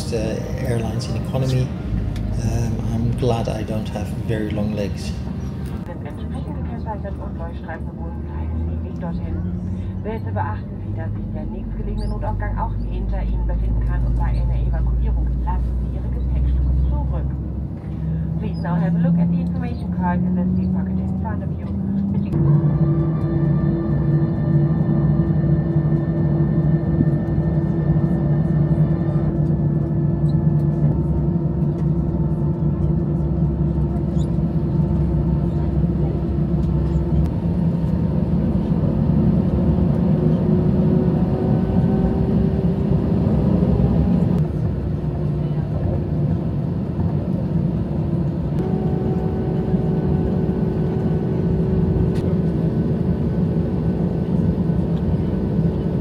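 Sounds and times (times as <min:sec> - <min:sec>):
aircraft cabin hum: 0:00.0 - 0:56.0
airliner engine rumble: 0:00.0 - 0:56.0.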